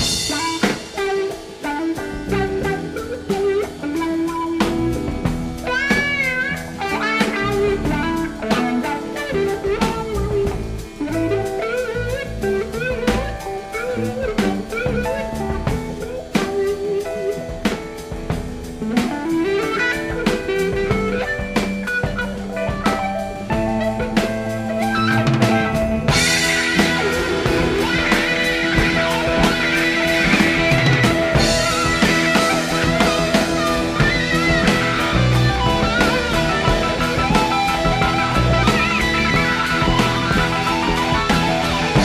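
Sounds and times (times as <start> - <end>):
bass guitar: 0.0 - 42.0
drums: 0.0 - 42.0
lead electric guitar bending lines: 0.0 - 42.0.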